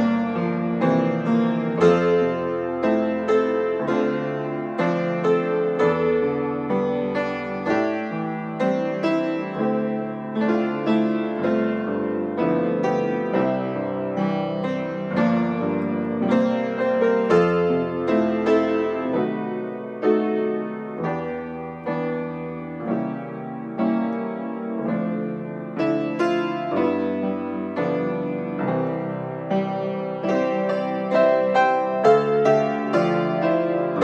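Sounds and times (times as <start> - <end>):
solo piano playing a hymn: 0.0 - 34.0.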